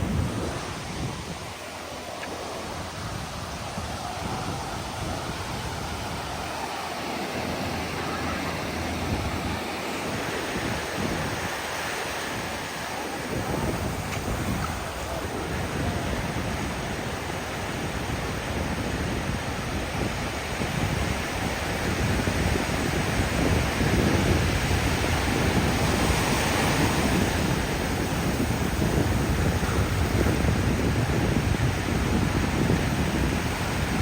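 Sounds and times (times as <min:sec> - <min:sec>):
surf breaking on a beach: 0:00.0 - 0:34.0
wind rumbling on microphone: 0:00.0 - 0:34.0.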